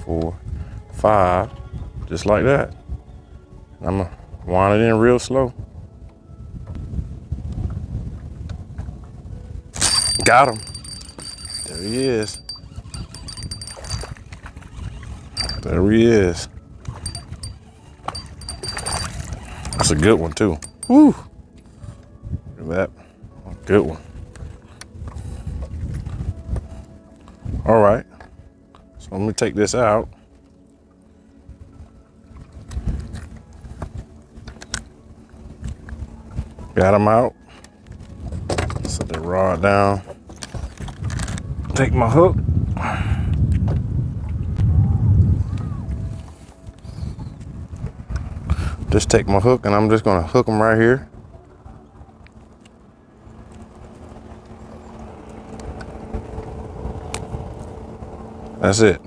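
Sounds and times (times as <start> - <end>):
wind rumble: 0.0 - 29.2, 30.0 - 59.0
choppy water around boat: 0.0 - 59.0.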